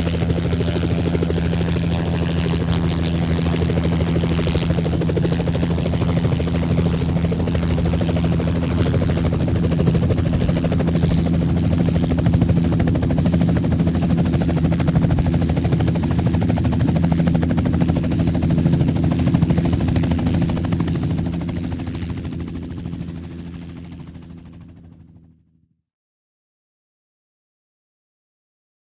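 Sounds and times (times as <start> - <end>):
helicopter rotor and engine: 0.0 - 25.6.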